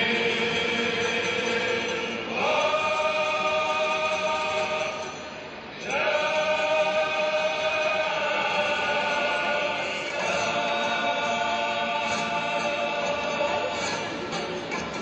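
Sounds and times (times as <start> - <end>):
male choir singing: 0.0 - 14.6.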